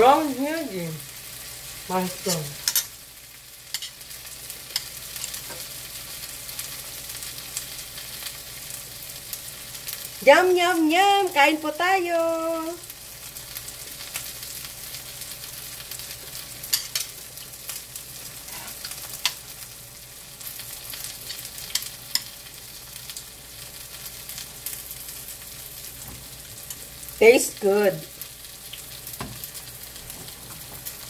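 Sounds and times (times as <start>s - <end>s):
pancake sizzling in oil: 0.0s - 31.0s.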